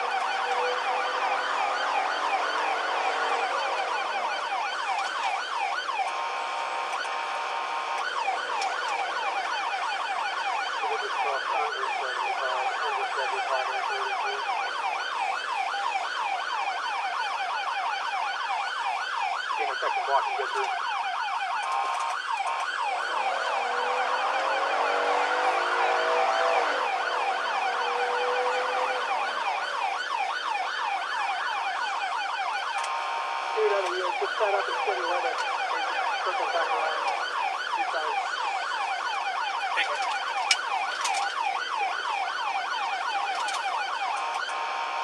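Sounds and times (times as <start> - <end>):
lower rising and falling siren tone: 0.0 - 45.0
police siren fast yelp: 0.0 - 45.0.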